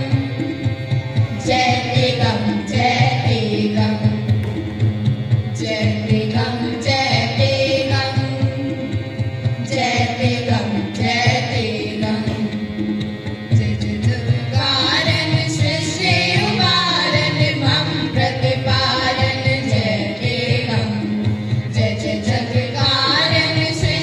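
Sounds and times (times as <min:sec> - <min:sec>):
harmonium: 0:00.0 - 0:24.0
tabla: 0:00.0 - 0:24.0
girls singing a hymn: 0:01.4 - 0:04.2, 0:05.6 - 0:08.8, 0:09.6 - 0:12.6, 0:13.6 - 0:24.0.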